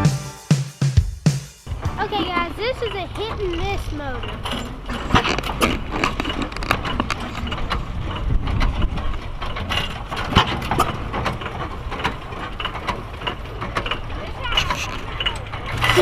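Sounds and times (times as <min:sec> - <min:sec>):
engine mechanism clicks and knocks: 0:01.7 - 0:16.0.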